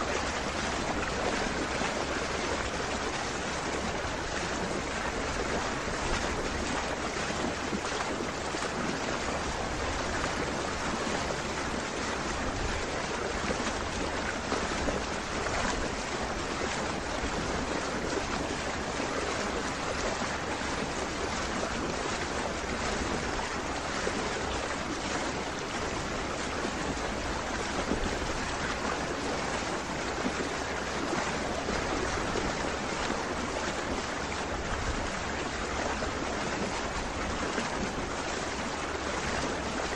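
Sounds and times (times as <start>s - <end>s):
water rushing past boat: 0.0s - 39.9s
wind on microphone: 0.0s - 39.9s.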